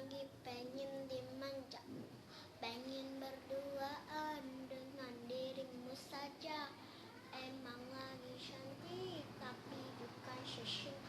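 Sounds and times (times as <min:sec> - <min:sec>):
child singing: 0:00.0 - 0:01.9, 0:02.6 - 0:11.0.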